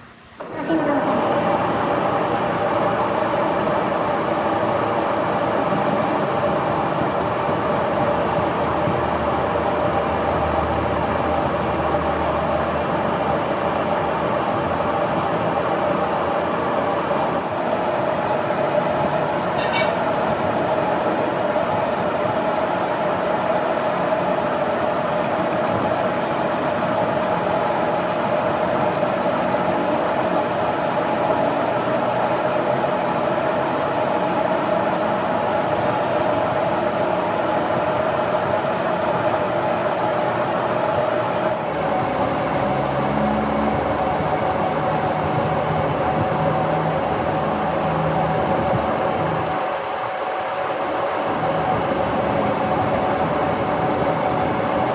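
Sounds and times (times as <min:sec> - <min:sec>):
metal lathe humming: 0:00.4 - 0:54.9.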